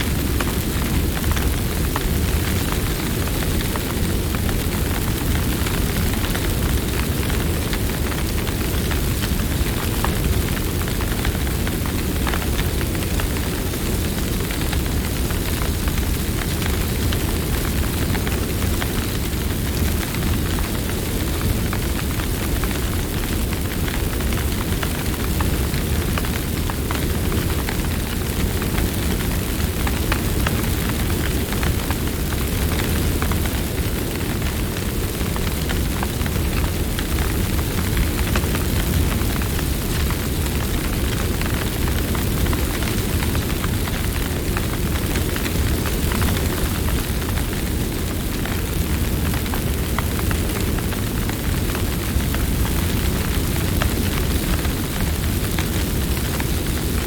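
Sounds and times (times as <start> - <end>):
campfire flames rushing: 0.0 - 57.0
fire crackling and popping: 0.0 - 57.0.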